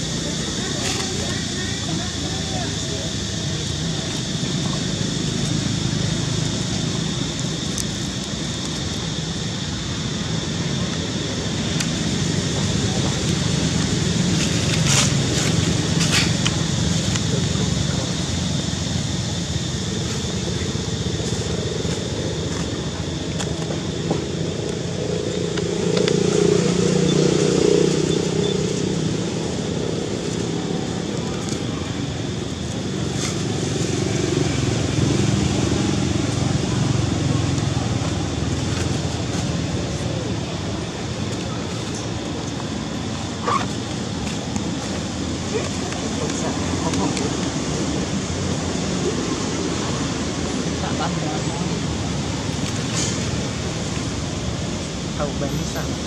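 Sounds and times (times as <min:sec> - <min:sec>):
low outdoor rumble: 0:00.0 - 0:56.0
vehicle engine droning: 0:00.0 - 0:56.0.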